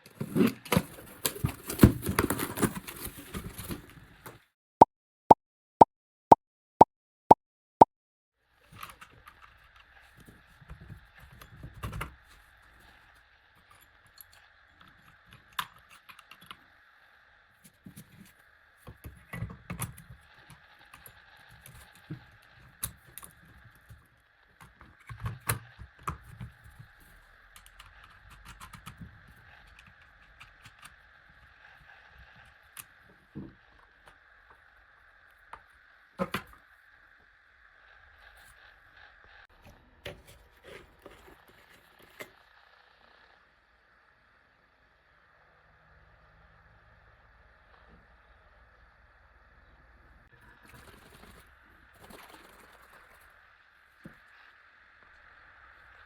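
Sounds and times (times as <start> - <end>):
faint steady hum: 8.8 - 56.0.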